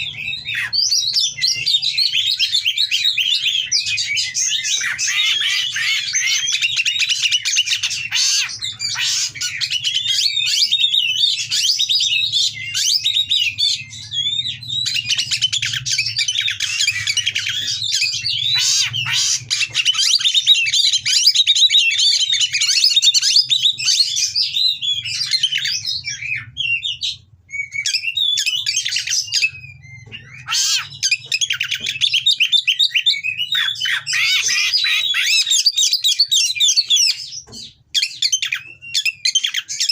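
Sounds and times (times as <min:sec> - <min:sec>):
bird song chirps and whistles: 0:00.0 - 0:39.9.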